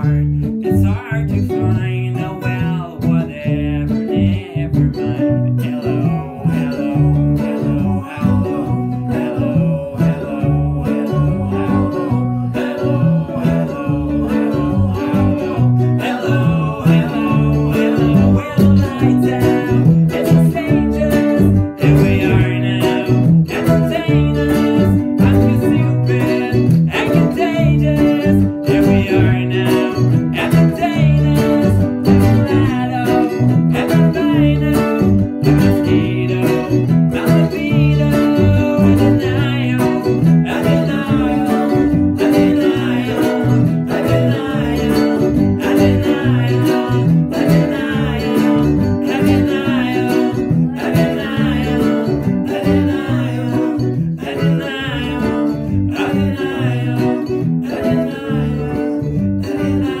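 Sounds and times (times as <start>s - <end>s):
person singing: 0.0s - 60.0s
ukulele strumming: 0.0s - 60.0s.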